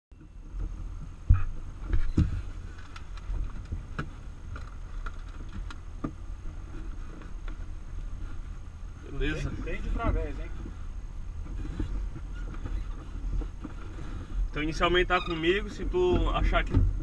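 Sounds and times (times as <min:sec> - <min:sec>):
low steady rumble: 0:00.1 - 0:17.0.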